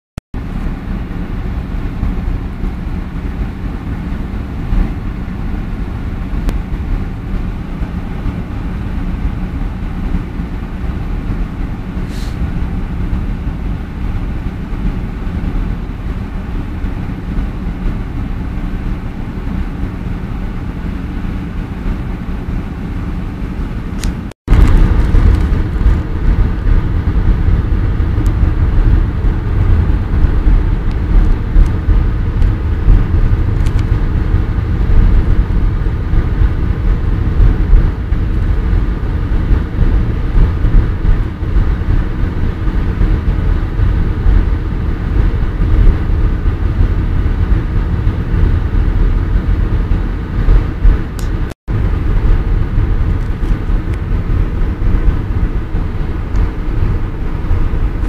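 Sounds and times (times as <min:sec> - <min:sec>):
car engine and road rumble: 0:00.4 - 0:58.0.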